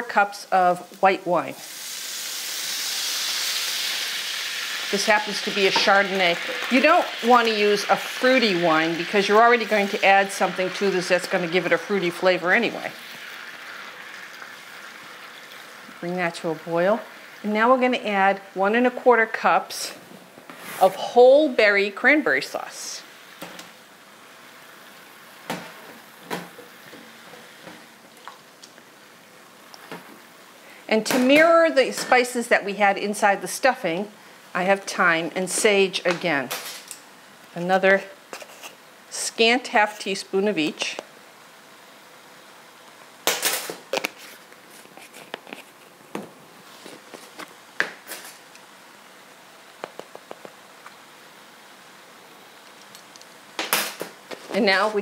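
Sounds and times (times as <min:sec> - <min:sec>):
sauce sizzling in skillet: 0:00.1 - 0:55.0.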